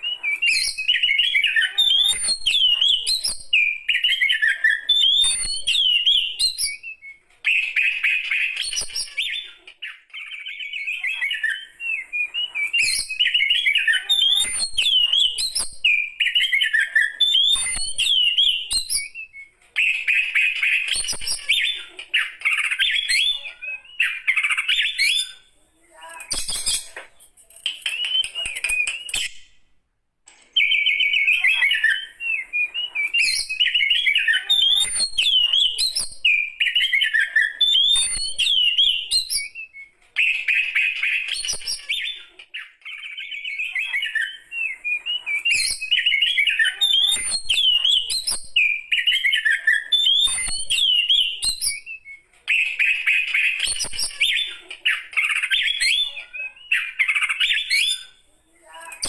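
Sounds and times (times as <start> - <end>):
bird singing whistled song: 0.0 - 25.5, 27.7 - 29.6, 30.6 - 59.0.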